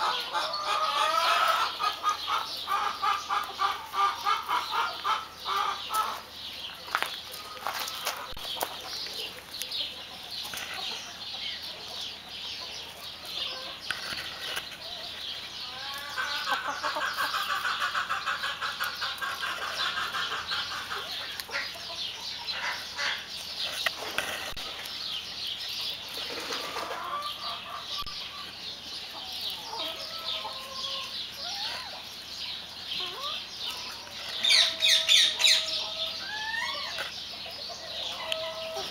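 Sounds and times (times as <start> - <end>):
chickens clucking and calling: 0.0 - 38.9.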